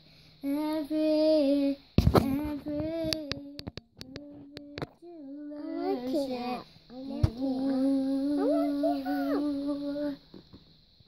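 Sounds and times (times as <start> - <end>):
girl singing long notes: 0.4 - 10.3.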